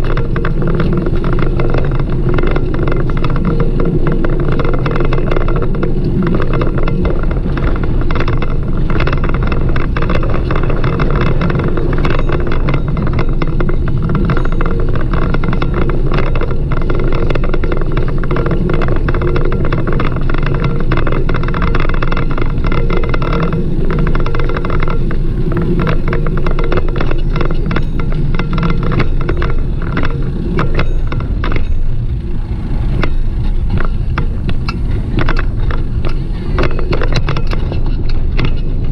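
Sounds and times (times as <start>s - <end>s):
bicycle rattling on pavement: 0.0s - 38.9s.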